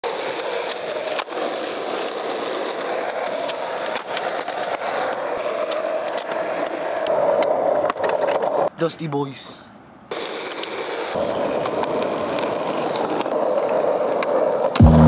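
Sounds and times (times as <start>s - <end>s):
skateboard clacking on curb: 0.0s - 8.7s, 10.1s - 14.8s
skateboard wheels rolling on asphalt: 0.0s - 15.0s.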